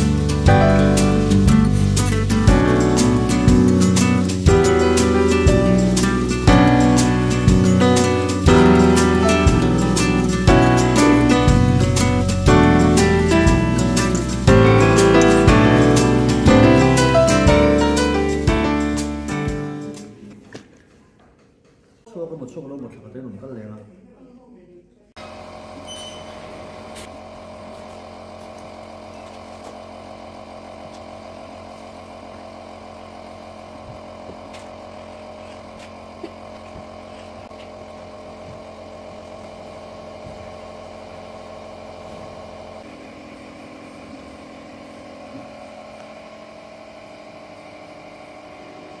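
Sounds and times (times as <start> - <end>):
mechanical room hum: 0.0 - 49.0.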